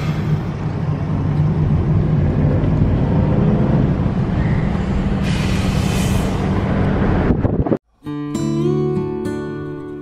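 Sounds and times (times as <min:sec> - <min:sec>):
car engine and road noise: 0:00.0 - 0:08.1.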